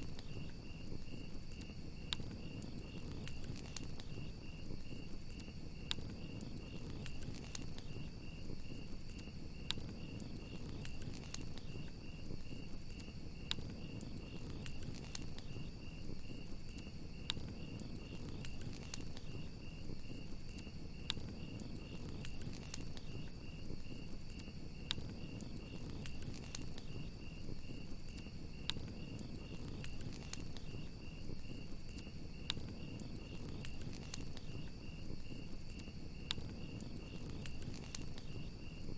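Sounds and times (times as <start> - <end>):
campfire crackling and popping: 0.0 - 38.9
crickets chirping: 0.0 - 38.9
high insect trill: 0.0 - 38.9.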